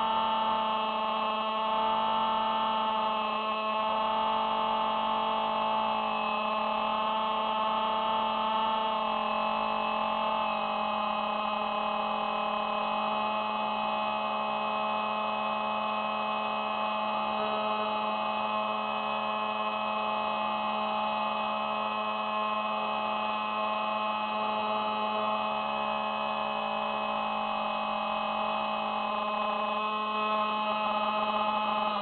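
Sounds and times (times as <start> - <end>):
model plane motor whining: 0.0 - 32.0.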